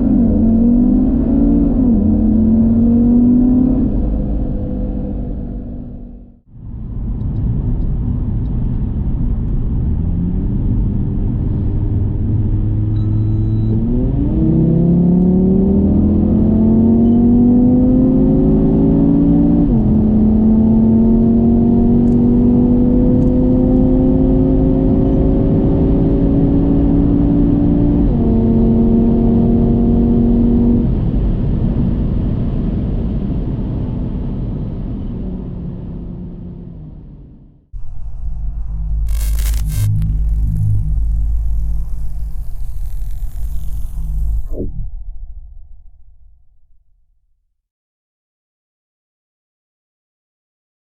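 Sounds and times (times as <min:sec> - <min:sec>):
car engine accelerating hard: 0:00.0 - 0:44.7.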